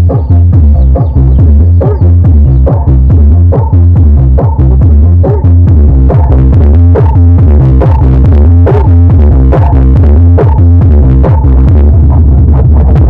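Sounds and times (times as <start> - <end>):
electronic dance music with heavy bass: 0.0 - 13.0.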